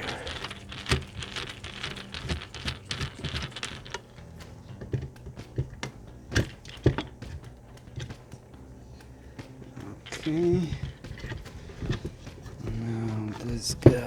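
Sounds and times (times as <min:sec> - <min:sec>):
screwdriver clicking on metal case: 0:00.0 - 0:14.0.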